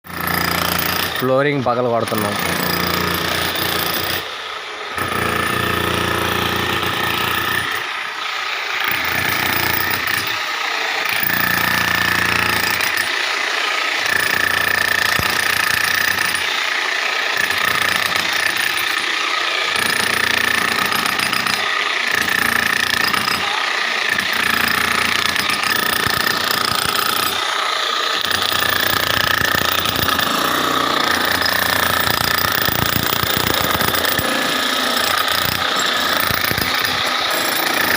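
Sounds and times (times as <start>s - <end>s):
demolition hammer breaking concrete: 0.1s - 1.3s, 2.1s - 4.2s, 5.0s - 7.9s, 8.8s - 13.4s, 14.0s - 16.6s, 17.2s - 27.5s, 28.2s - 37.9s.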